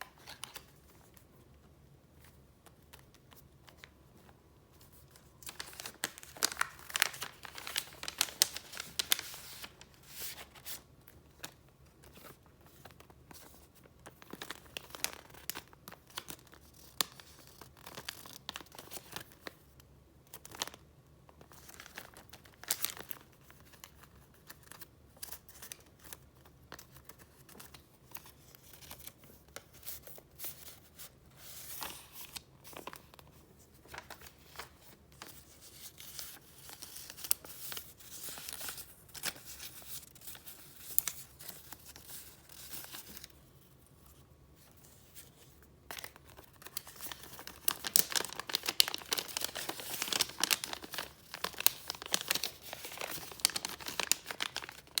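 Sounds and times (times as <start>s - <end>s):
paper rustling and crinkling: 0.0s - 19.6s, 21.4s - 55.0s.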